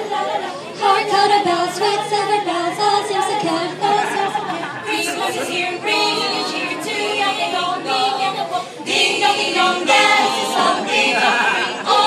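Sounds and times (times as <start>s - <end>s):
choir singing a carol: 0.0s - 12.0s.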